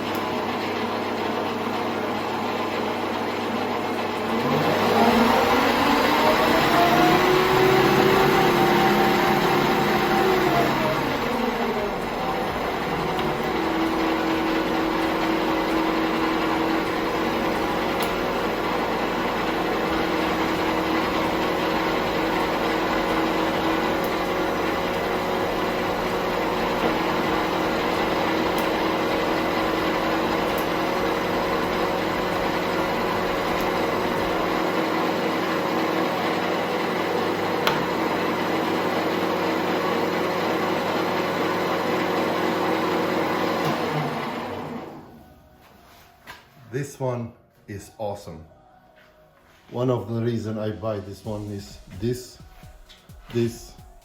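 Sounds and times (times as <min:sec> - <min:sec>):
lathe motor humming: 0:00.0 - 0:45.3.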